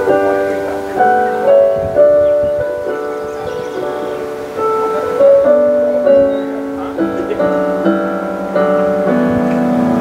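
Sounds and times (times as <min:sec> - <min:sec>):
piano playing slow chords: 0:00.0 - 0:10.0.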